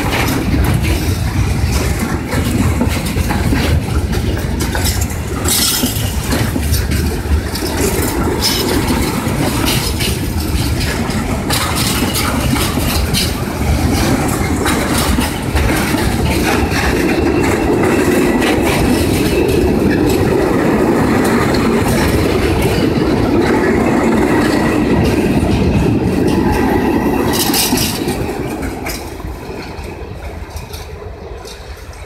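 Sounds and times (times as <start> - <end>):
freight train rolling past: 0.0 - 32.0
wheels clattering over rail joints: 0.0 - 32.0.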